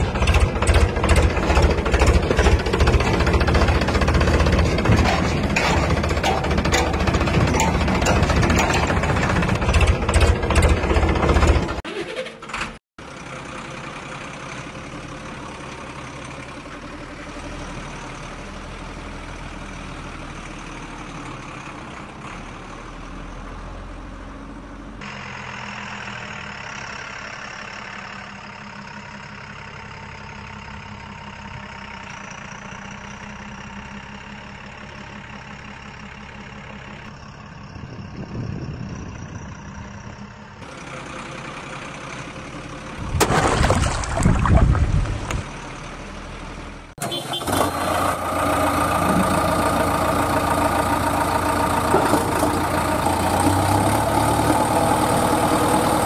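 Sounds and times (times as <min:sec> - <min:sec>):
truck engine idling: 0:00.0 - 0:12.0, 0:12.7 - 0:56.0.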